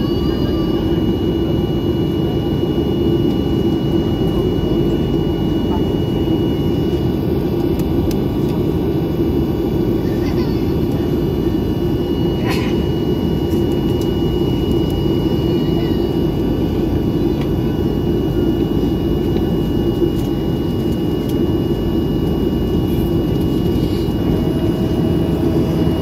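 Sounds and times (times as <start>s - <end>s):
aircraft cabin rumble and hum: 0.0s - 26.0s.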